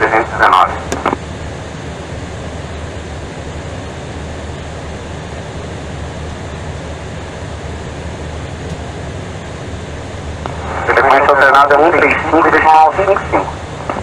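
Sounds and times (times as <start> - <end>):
airplane cabin rushing noise: 0.0 - 14.0
low hum: 0.0 - 14.0.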